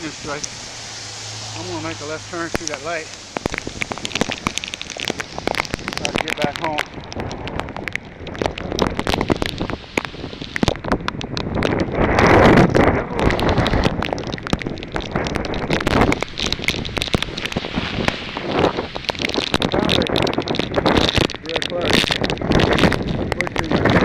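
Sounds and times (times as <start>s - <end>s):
heavy rain: 0.0s - 24.0s
raindrops ticking on camera: 0.0s - 24.0s
wind buffeting microphone: 0.0s - 24.0s.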